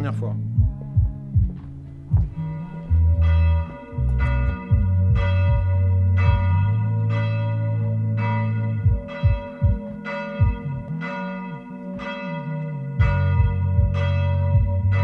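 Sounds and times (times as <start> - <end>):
low steady tone: 0.3 - 15.0
bell tolling: 2.1 - 15.0.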